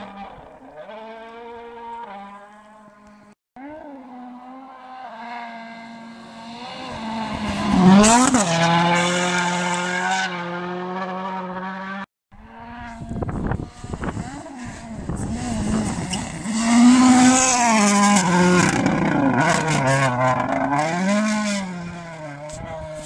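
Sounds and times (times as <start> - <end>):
rally car engine passing: 0.0 - 23.0.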